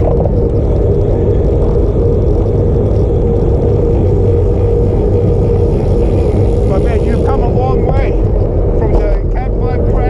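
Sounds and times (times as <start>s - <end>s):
constant hum: 0.0s - 10.0s
wind rushing over microphone: 0.0s - 10.0s.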